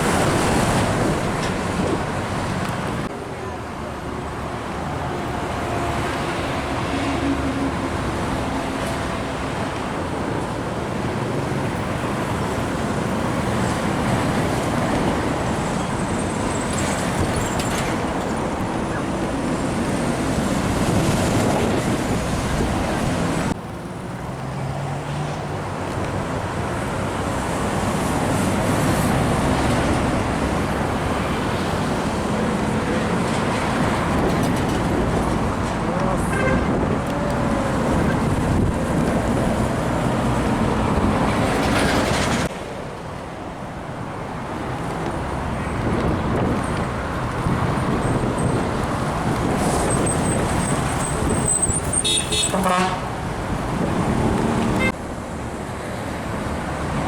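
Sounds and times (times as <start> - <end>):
diesel truck engines: 0.0 - 57.0.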